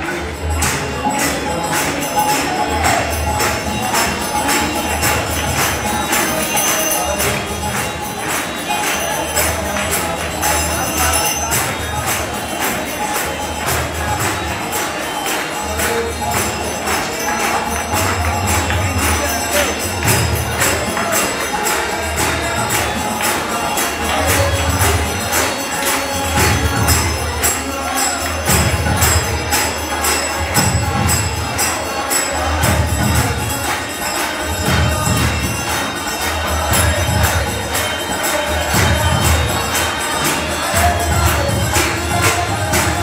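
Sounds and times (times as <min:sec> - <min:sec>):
hand cymbals clashing: 0:00.0 - 0:43.0.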